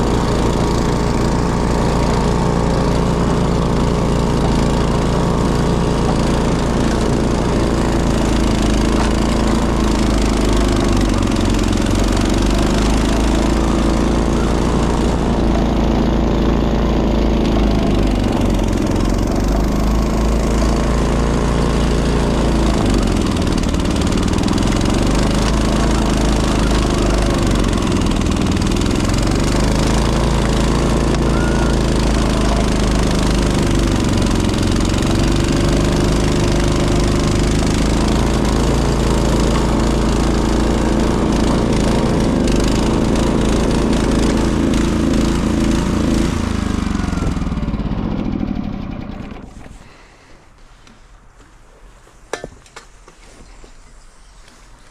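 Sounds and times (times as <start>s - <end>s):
snowblower engine bogging under load: 0.0s - 50.6s.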